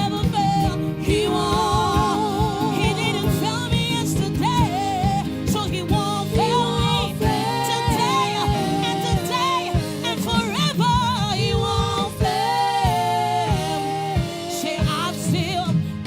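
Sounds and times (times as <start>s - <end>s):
bass: 0.0s - 16.0s
gospel choir singing: 0.0s - 16.0s
steady drum beat: 0.0s - 16.0s.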